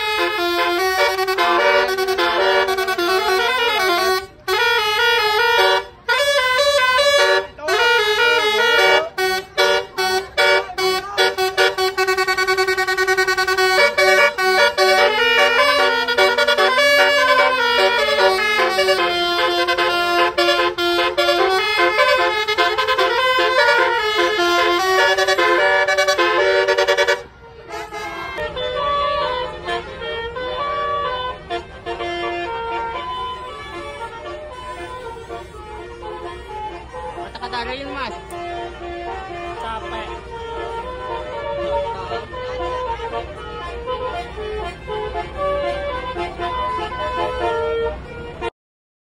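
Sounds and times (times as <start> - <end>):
multi-tone bus air horn melody: 0.0 - 48.6.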